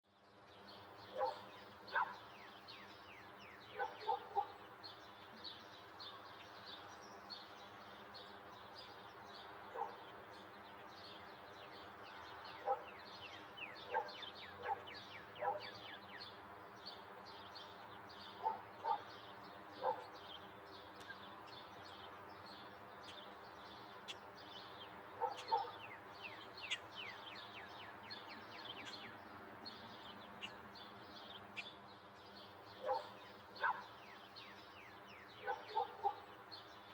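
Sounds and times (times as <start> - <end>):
small birds chirping: 0.5 - 36.9.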